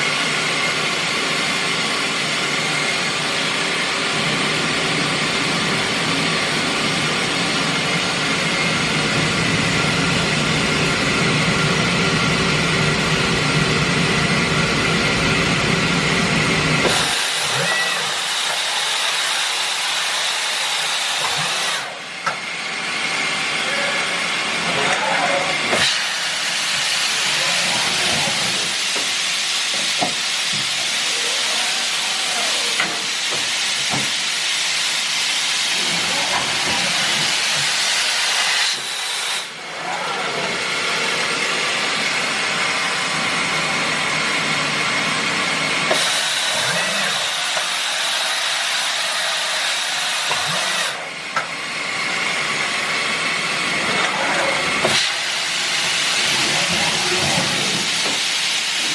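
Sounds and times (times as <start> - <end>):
machine loud steady hiss: 0.0 - 39.7, 40.6 - 53.8, 54.6 - 58.9.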